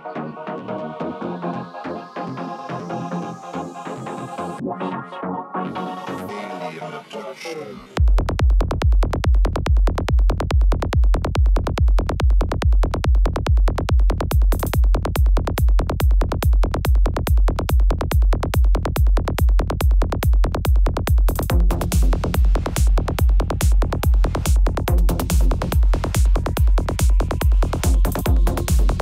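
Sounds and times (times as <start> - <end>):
psytrance dance music: 0.0 - 29.0.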